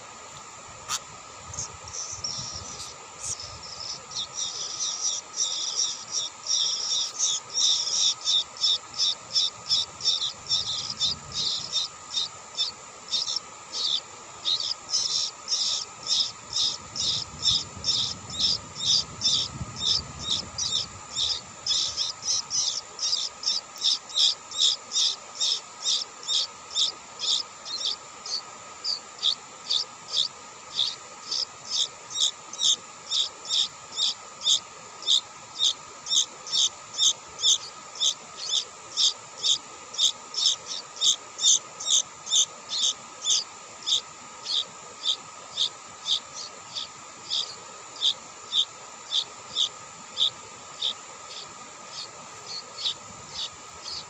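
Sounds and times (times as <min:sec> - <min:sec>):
nestlings chirping: 0:00.9 - 0:54.0.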